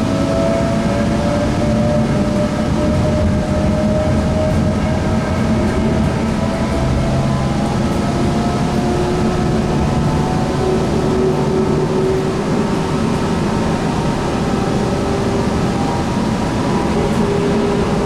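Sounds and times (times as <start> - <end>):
wheels rumbling on track: 0.0 - 18.0.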